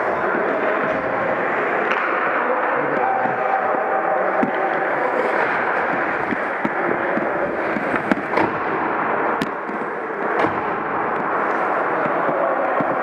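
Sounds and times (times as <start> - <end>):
ice rink din: 0.0 - 13.0
hockey pucks and sticks cracking: 0.3 - 13.0.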